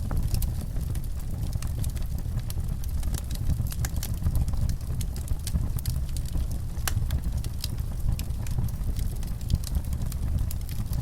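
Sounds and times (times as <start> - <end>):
rumble of flames: 0.0 - 11.0
wood fire crackling: 0.0 - 11.0.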